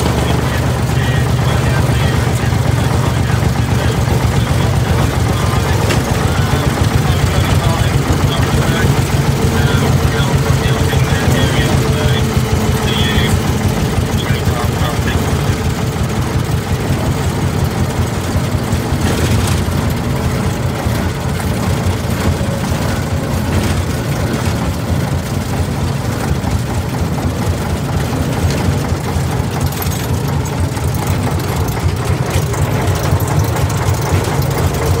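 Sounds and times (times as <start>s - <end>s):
diesel locomotive engine humming: 0.0s - 35.0s.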